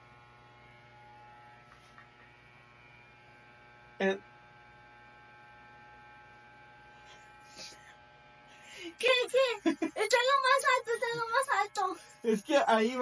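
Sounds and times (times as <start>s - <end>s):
low electric hum: 0.0s - 13.0s.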